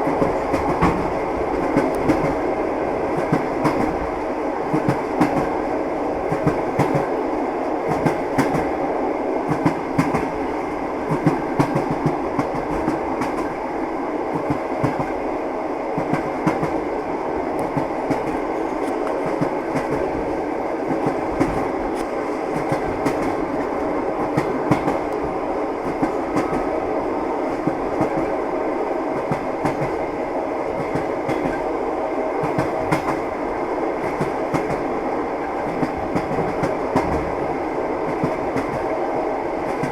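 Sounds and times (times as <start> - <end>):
train wheels clattering on rails: 0.0 - 7.2, 7.8 - 8.8, 9.4 - 13.7, 14.3 - 15.2, 16.0 - 26.8, 27.4 - 28.5, 29.1 - 39.9.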